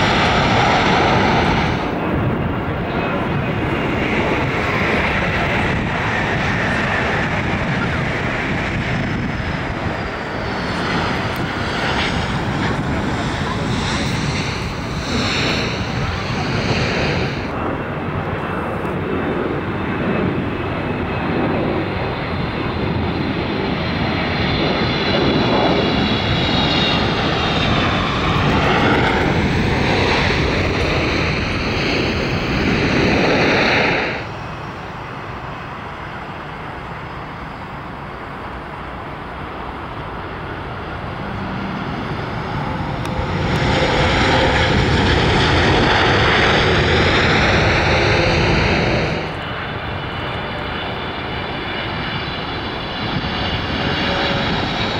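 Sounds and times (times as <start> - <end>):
jet engines rushing: 0.0 - 54.9.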